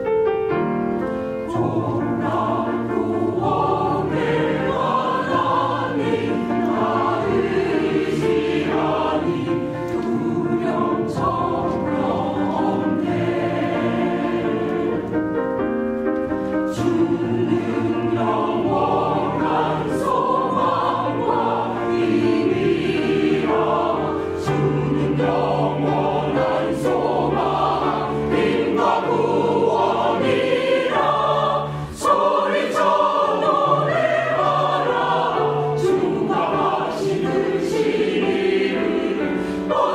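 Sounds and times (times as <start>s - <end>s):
mixed choir singing in parts: 1.4s - 15.4s, 16.4s - 39.9s.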